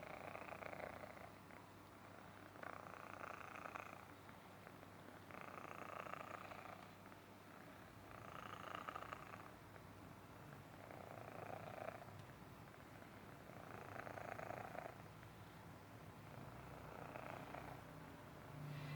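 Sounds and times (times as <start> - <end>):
kitten purring: 0.0 - 9.7, 10.7 - 15.1, 16.2 - 17.9.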